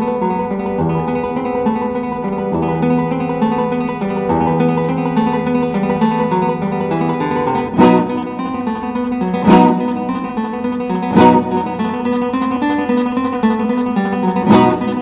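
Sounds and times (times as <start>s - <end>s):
acoustic guitar picked notes: 0.0s - 15.0s
loud guitar strums: 0.0s - 15.0s.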